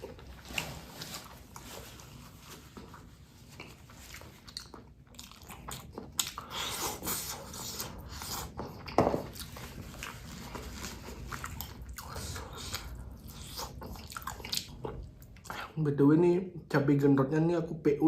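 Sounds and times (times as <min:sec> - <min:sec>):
person chewing food: 0:00.0 - 0:15.7.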